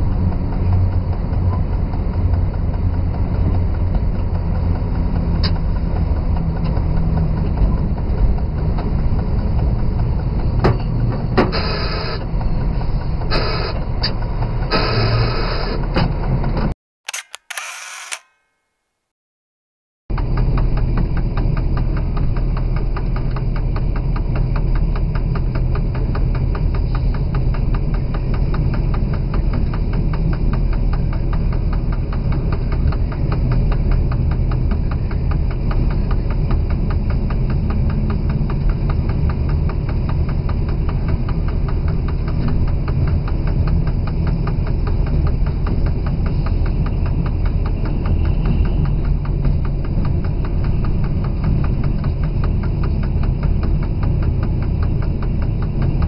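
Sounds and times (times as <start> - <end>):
diesel locomotive engine running: 0.0 - 18.2, 20.1 - 56.0.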